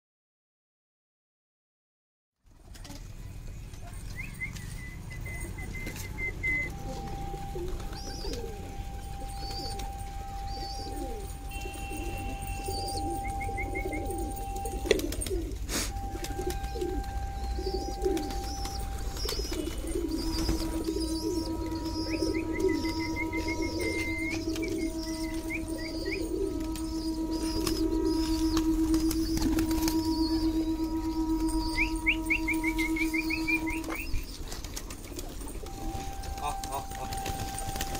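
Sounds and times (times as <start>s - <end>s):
small birds chirping: 2.6s - 37.9s
long steady high tones: 3.2s - 37.9s
pigeons cooing: 3.8s - 37.9s.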